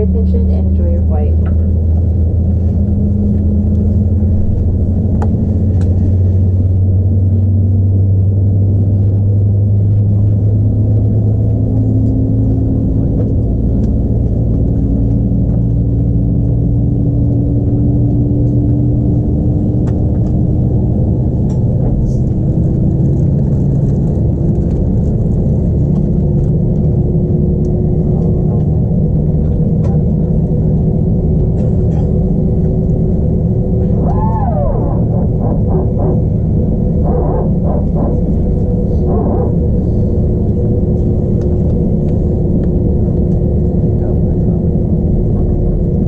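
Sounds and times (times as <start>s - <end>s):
jet engine cabin drone: 0.0s - 46.0s.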